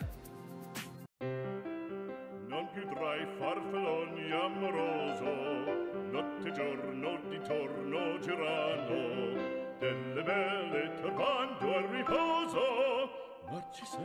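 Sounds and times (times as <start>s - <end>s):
operatic singing: 2.4s - 14.0s.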